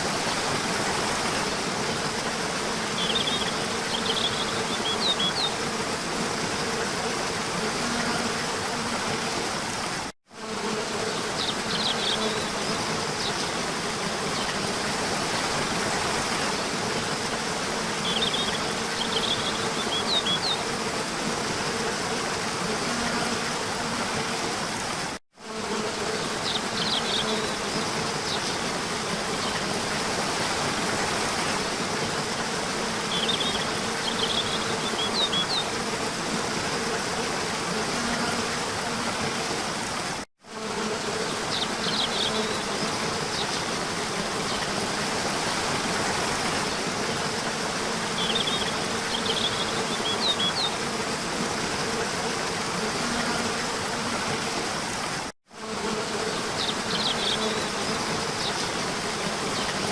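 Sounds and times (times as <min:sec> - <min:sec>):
small waterfall running: 0:00.0 - 0:59.9.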